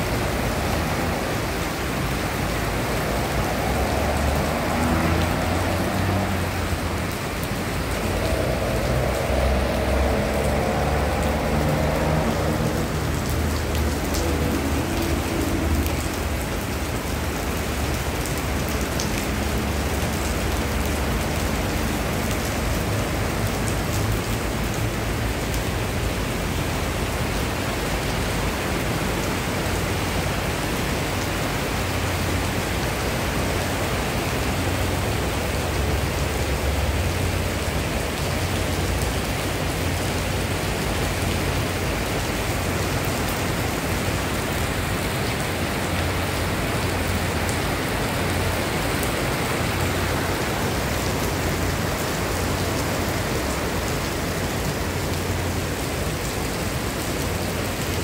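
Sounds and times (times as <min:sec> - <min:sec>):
heavy rain on paving and grass: 0:00.0 - 0:58.0.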